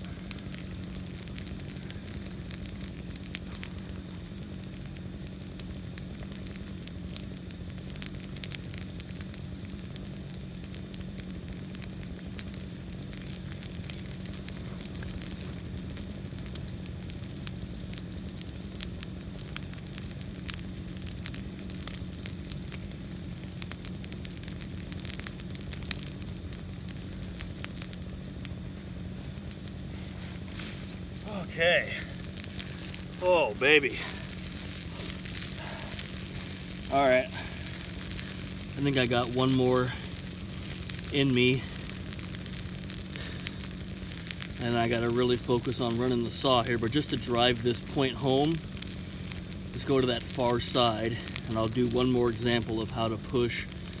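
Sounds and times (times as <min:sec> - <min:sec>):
fire crackling and popping: 0:00.0 - 0:54.0
low hum: 0:00.0 - 0:54.0.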